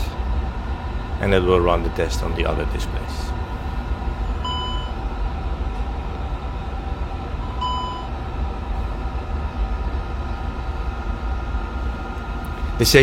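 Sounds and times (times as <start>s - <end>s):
low hum of cockpit equipment: 0.0s - 13.0s.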